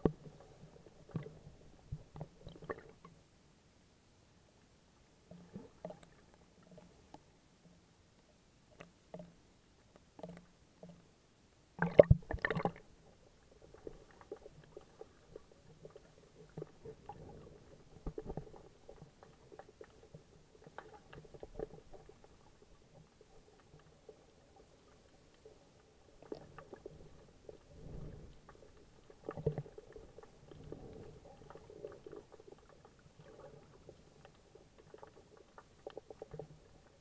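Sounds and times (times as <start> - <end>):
underwater rumble of moving water: 0.0 - 3.4, 5.0 - 37.0
small crackles: 5.2 - 11.1, 11.9 - 37.0.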